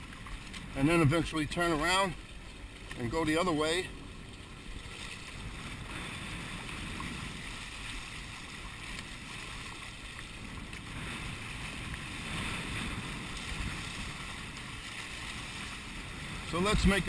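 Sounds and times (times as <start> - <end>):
water rushing along hull: 0.0 - 17.0
wind rumbling on microphone: 0.0 - 17.0.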